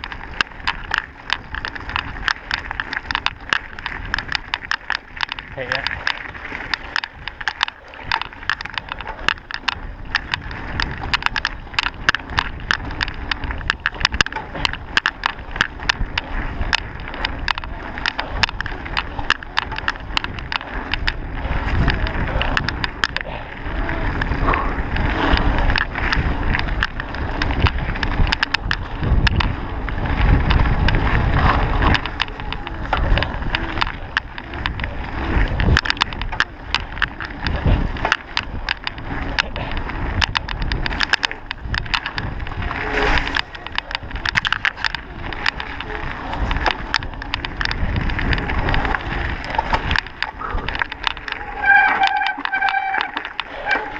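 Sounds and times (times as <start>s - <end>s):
bike rattling over dirt: 0.0s - 53.9s
wind on microphone: 0.0s - 53.9s.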